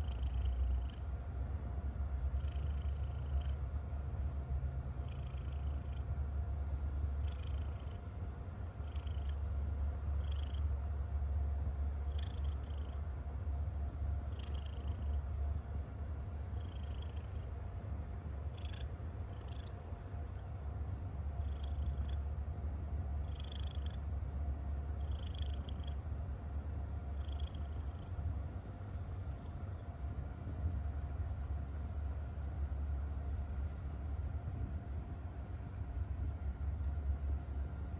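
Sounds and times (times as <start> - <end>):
cat purring: 0.0 - 37.9.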